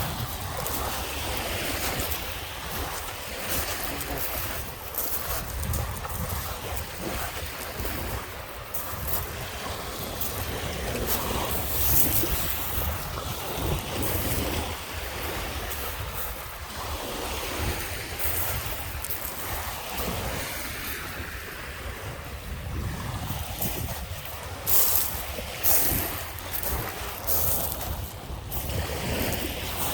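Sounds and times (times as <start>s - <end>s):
waves washing onto beach: 0.0s - 29.9s
wind buffeting microphone: 0.0s - 29.9s.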